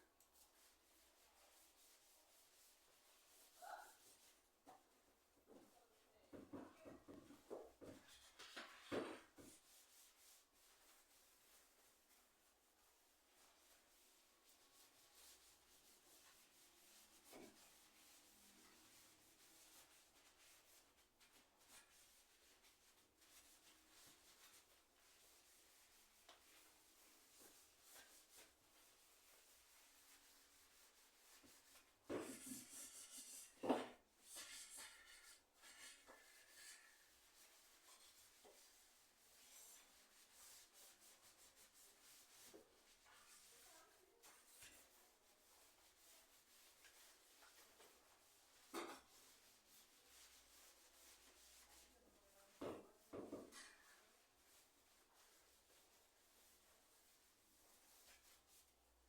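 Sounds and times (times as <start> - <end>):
faint rubbing strokes: 0.2 - 59.0.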